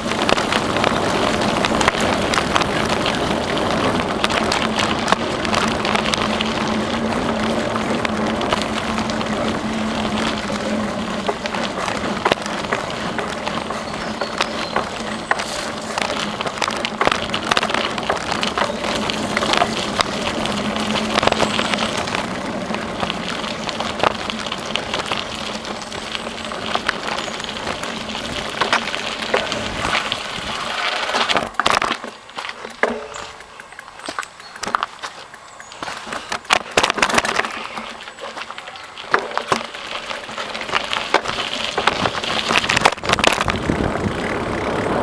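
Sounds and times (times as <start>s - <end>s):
bicycle clicks and rattles: 0.0s - 45.0s
bicycle tyre rolling on trail: 0.0s - 45.0s.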